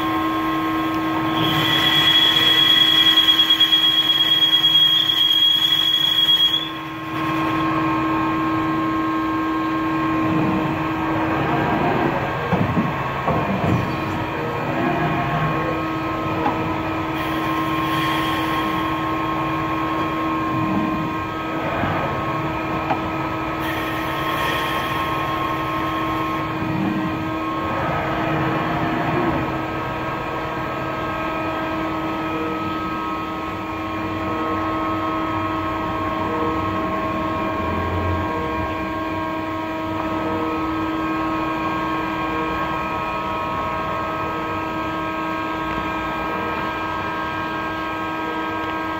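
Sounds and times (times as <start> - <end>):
lathe running: 0.0 - 48.9.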